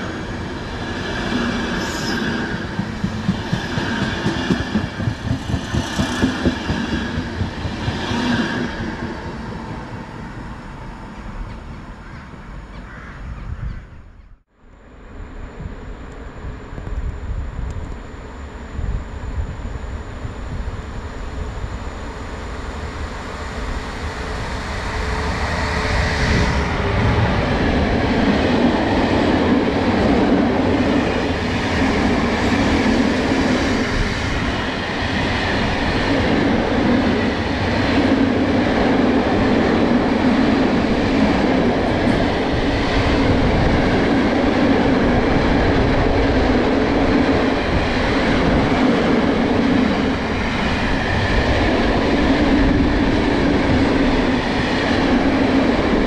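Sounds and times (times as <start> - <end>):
train passing close by: 0.0 - 14.2, 14.8 - 56.0.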